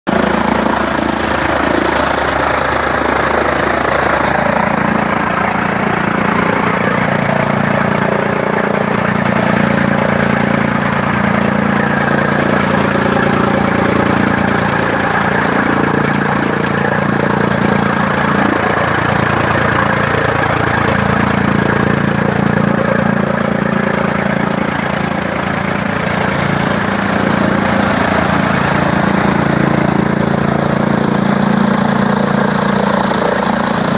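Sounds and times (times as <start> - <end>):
tractor engine under load: 0.0 - 33.9
chaff cutter machinery running: 0.1 - 33.9.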